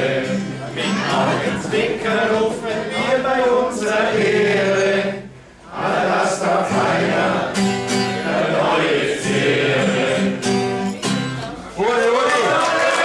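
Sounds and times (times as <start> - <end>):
voices singing along: 0.0 - 10.7
acoustic guitar strumming: 0.0 - 13.0.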